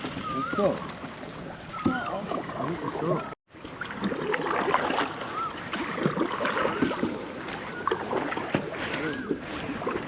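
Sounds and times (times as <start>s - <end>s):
paddle splashing in water: 0.0s - 10.0s.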